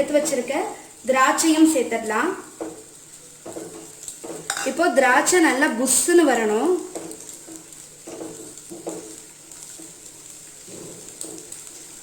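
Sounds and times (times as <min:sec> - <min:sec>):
nuts frying in hot oil: 0:00.0 - 0:12.0.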